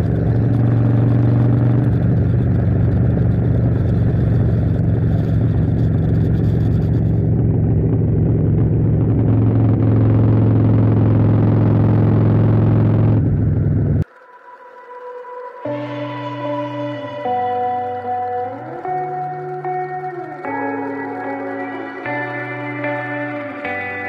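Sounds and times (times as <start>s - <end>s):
motorcycle engine running: 0.0s - 14.2s, 15.7s - 24.0s.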